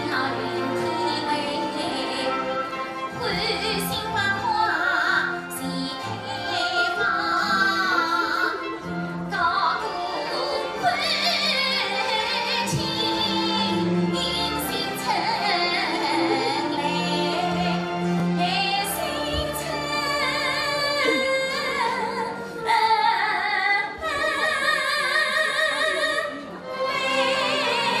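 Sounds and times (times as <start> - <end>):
instrumental accompaniment: 0.0 - 24.5
woman singing operatically: 0.0 - 28.0.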